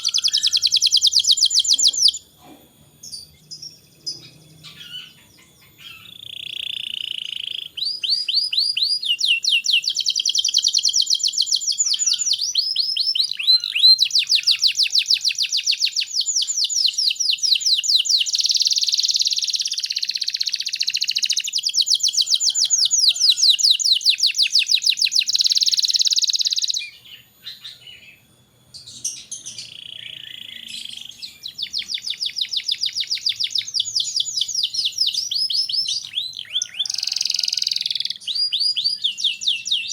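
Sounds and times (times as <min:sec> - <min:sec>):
canary singing trills: 0:00.0 - 0:02.4, 0:03.0 - 0:39.9.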